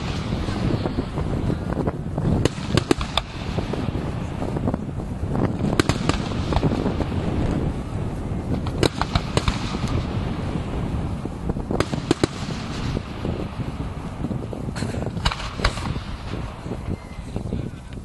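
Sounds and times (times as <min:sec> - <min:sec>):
fireworks crackling: 0:00.0 - 0:18.0
fireworks rumbling: 0:00.0 - 0:18.0.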